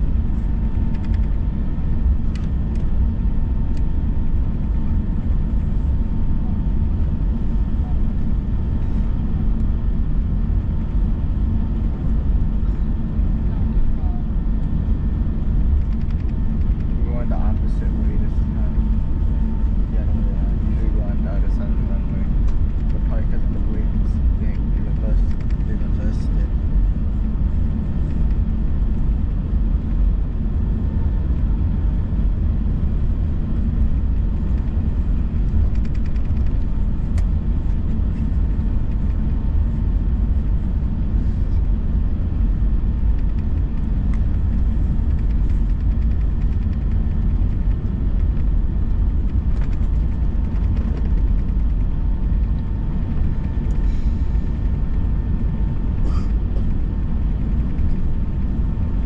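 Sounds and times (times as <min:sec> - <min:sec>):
aircraft cabin low rumble: 0:00.0 - 0:59.0.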